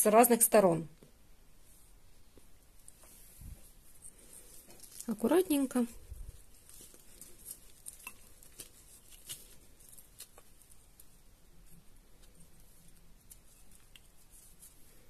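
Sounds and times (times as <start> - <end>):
potting mix rustling: 1.7 - 15.0.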